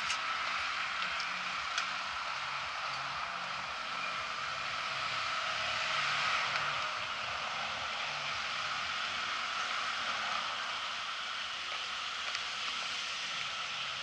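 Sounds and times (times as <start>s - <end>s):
street ambience hiss: 0.0s - 14.0s.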